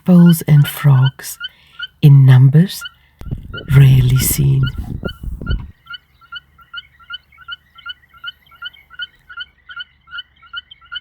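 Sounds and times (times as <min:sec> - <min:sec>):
frogs chirping: 0:00.0 - 0:11.0.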